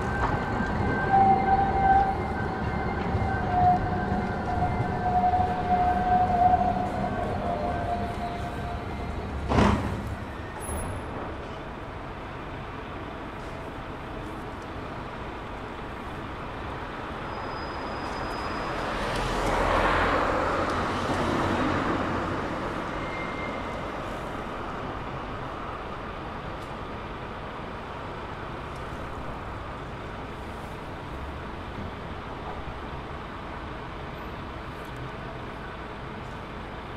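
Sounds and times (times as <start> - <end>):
low traffic hum: 0.0 - 36.9.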